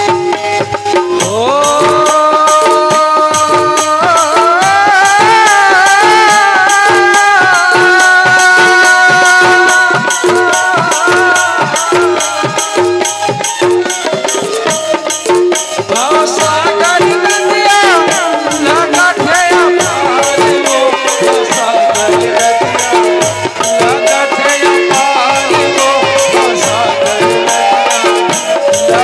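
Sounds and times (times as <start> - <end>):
fast drum beat: 0.0 - 29.0.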